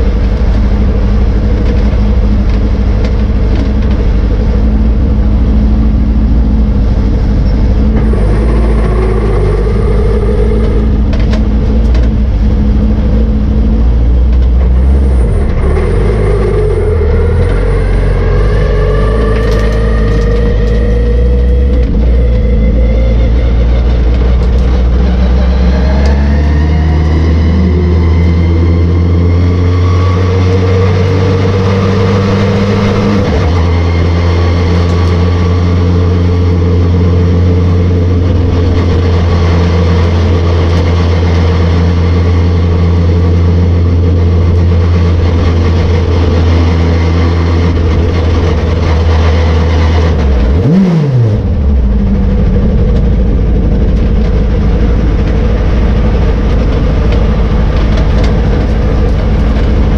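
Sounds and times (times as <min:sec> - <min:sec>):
racing car engine at full throttle: 0:00.0 - 0:59.9.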